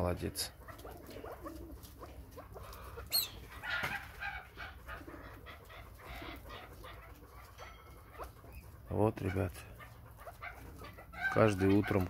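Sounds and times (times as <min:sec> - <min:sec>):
partridges clucking and chirping: 0:00.0 - 0:12.0.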